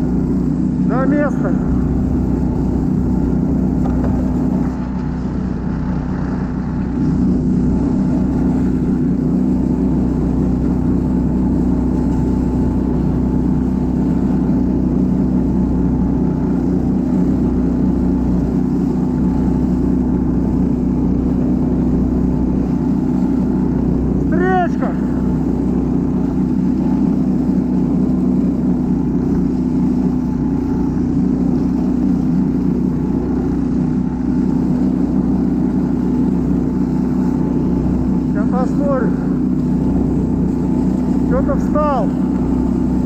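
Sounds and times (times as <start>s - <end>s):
snow tow engine running: 0.0s - 43.0s.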